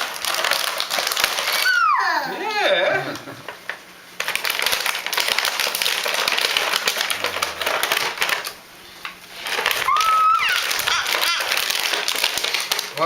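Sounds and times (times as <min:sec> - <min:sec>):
packaging crinkling: 0:00.0 - 0:02.0, 0:03.7 - 0:13.0.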